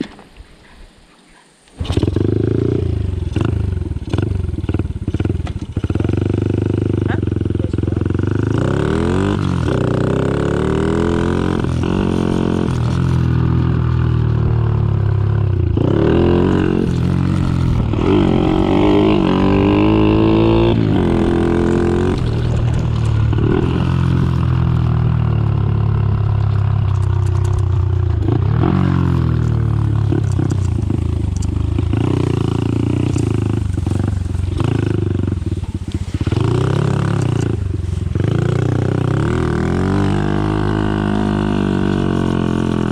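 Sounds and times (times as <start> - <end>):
motorcycle engine revving: 1.8 - 42.9.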